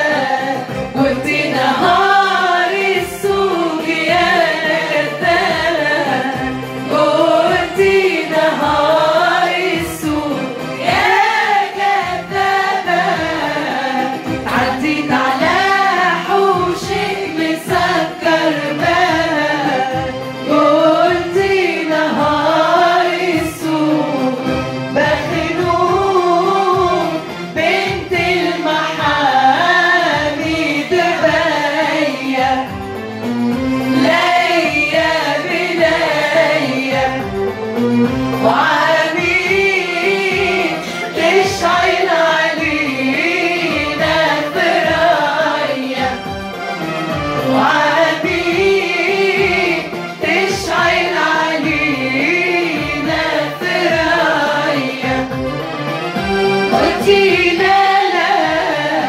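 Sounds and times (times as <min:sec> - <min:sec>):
women singing together: 0:00.0 - 0:33.0, 0:33.8 - 0:46.8, 0:47.4 - 0:55.7, 0:56.6 - 0:59.0.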